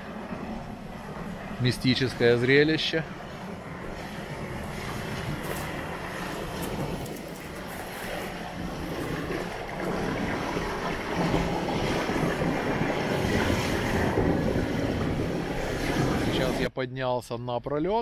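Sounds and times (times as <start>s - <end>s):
water gurgling in a whirlpool: 0.0s - 16.7s
wind rumbling on microphone: 0.0s - 16.7s.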